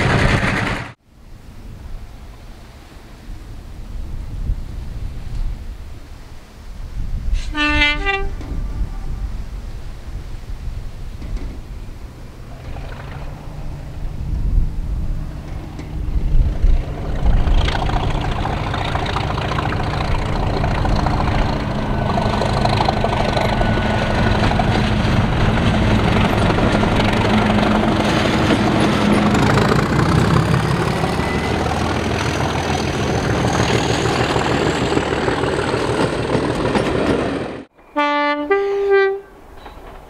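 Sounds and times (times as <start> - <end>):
train rumbling and rushing: 0.0 - 40.0.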